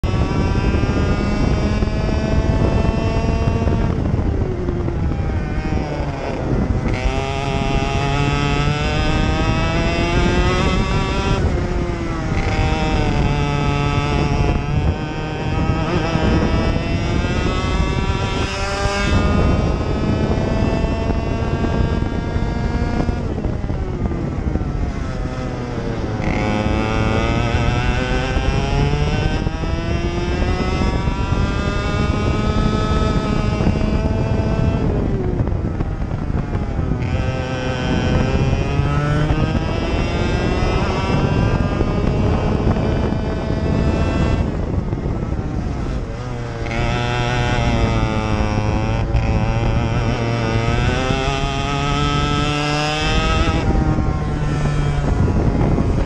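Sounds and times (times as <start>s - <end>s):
kart engine at full throttle: 0.0s - 56.0s.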